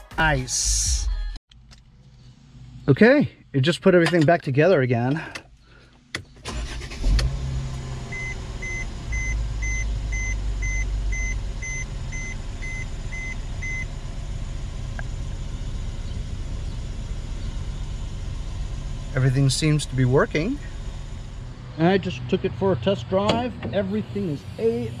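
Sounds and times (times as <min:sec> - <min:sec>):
car engine starting and idling: 0:01.5 - 0:25.0.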